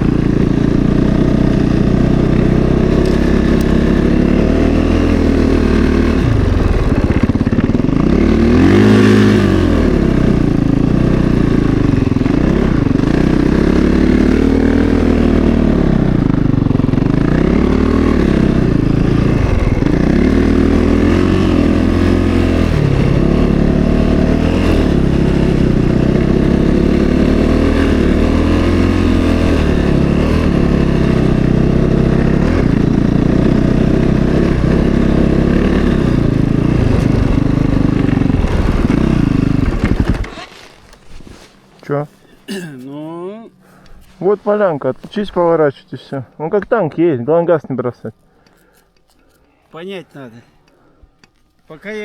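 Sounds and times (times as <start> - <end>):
snowbike engine revving: 0.0 - 46.2.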